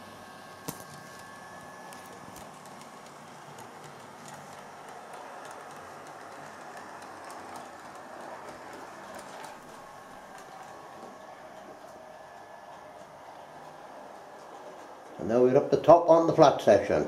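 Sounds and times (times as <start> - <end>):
model train motor whirr: 0.0 - 17.0
wheels clicking on rails: 0.6 - 17.0.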